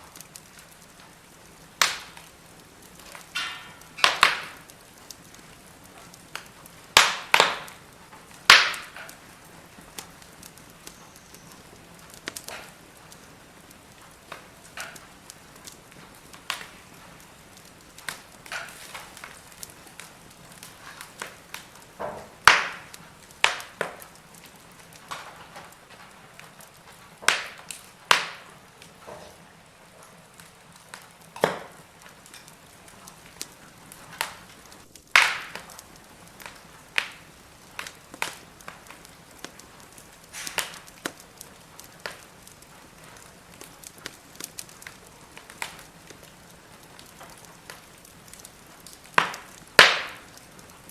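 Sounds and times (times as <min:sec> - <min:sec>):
faint steady hiss: 0:00.0 - 0:50.9
firewood crackling and popping: 0:00.0 - 0:50.9.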